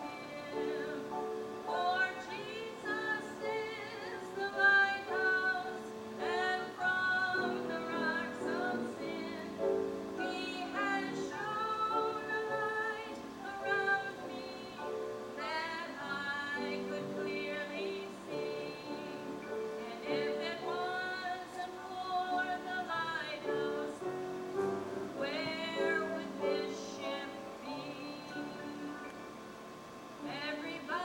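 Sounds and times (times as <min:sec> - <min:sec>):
woman singing with vibrato: 0:00.0 - 0:29.1, 0:30.2 - 0:31.0.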